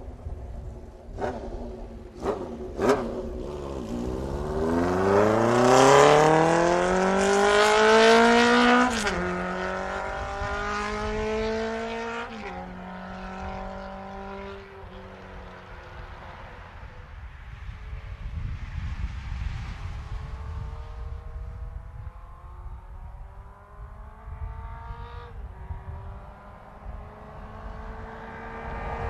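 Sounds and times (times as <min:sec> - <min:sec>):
motorcycle accelerating: 0:00.0 - 0:29.0.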